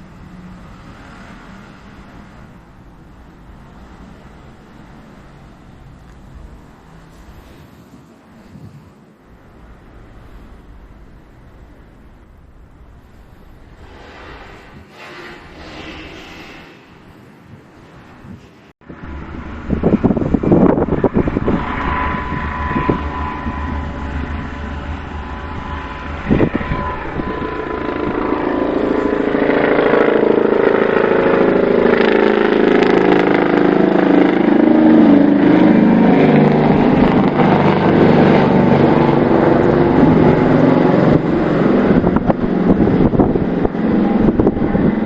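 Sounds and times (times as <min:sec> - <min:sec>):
vehicle running: 0:00.0 - 0:45.0
wind noise on microphone: 0:00.0 - 0:45.0.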